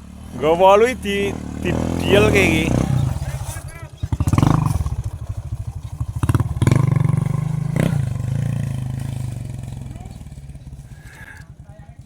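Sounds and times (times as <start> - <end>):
small petrol engine revving: 0.0 - 12.0.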